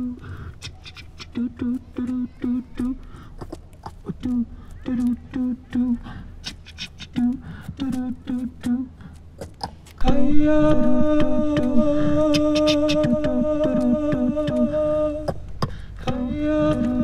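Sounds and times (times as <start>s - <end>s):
beatboxing mouth clicks: 0.0s - 17.0s.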